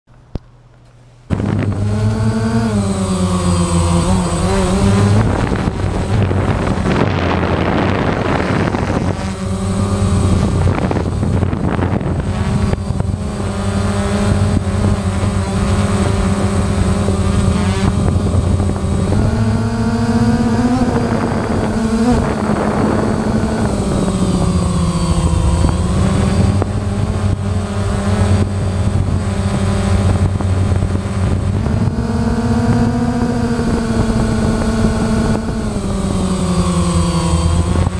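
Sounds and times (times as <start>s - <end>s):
drone propellers buzzing: 1.2s - 37.9s.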